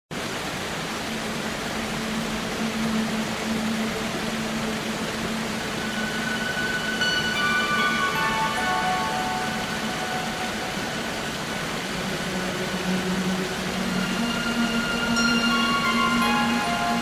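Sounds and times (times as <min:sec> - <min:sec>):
steady rushing noise: 0:00.1 - 0:17.0
soft high music notes: 0:00.6 - 0:17.0.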